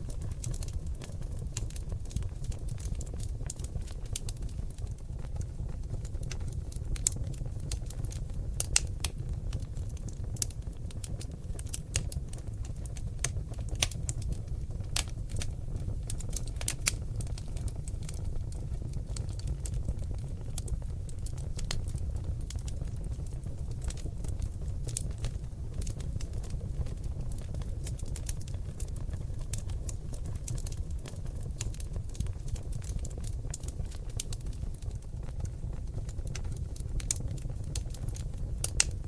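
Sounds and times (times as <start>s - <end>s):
logs crackling and popping: 0.0s - 39.0s
low rumble of flames: 0.0s - 39.0s.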